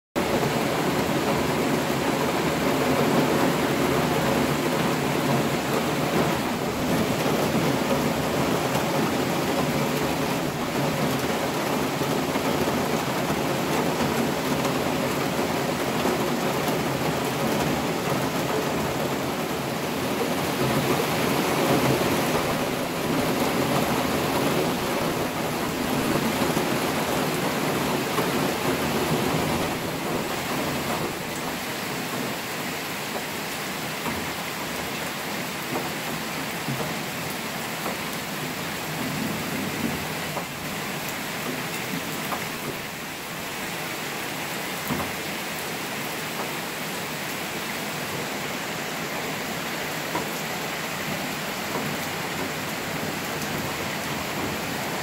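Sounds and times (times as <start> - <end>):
heavy rain falling: 0.2 - 55.0.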